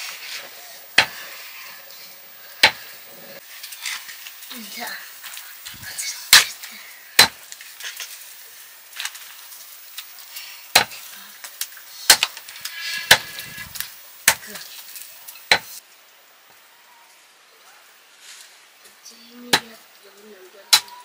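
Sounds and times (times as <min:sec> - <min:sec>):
faint sizzling hiss: 0:00.0 - 0:21.0.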